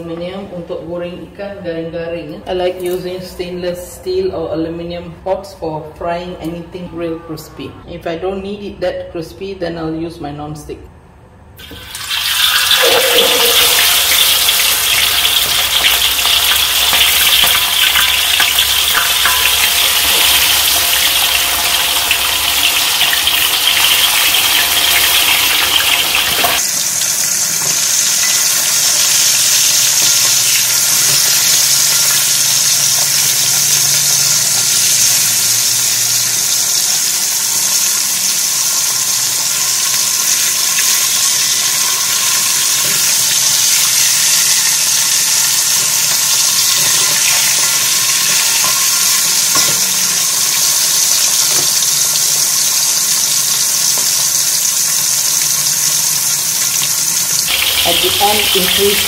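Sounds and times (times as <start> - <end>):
fish sizzling in hot oil: 11.6 - 59.0.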